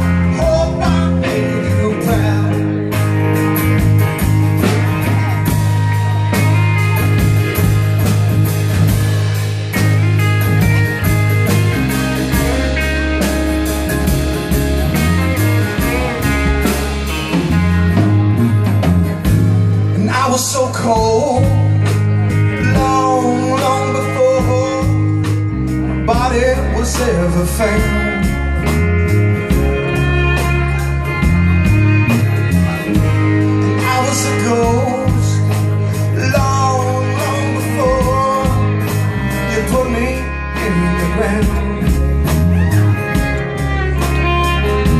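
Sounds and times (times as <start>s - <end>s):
bending wavering lead guitar line: 0.0s - 44.9s
electric and acoustic guitars: 0.0s - 44.9s
steady bass line: 0.0s - 44.9s.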